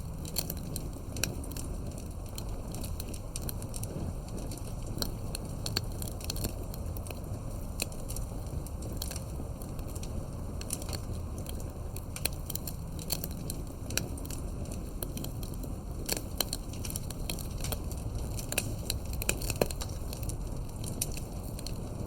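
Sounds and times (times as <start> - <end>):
burning wood crackling and popping: 0.0 - 22.0
campfire rumble: 0.0 - 22.0.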